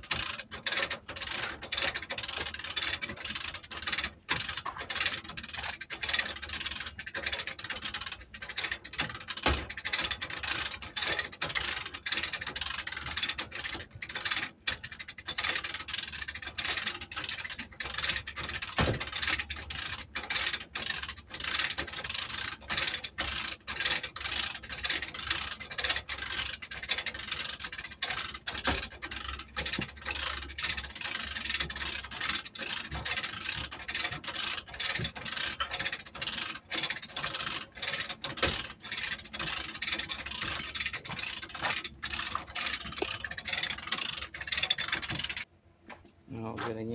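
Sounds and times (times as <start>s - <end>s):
chain hoist ratchet clicking: 0.0s - 45.5s.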